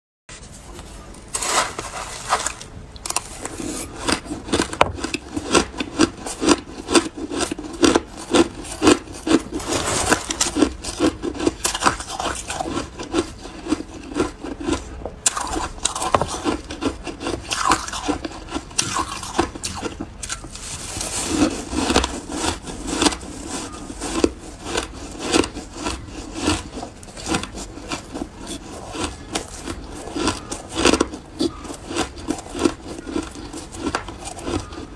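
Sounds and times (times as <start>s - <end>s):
metal spoon scraping ice: 1.0s - 34.9s
ice crunched between teeth: 2.2s - 34.9s.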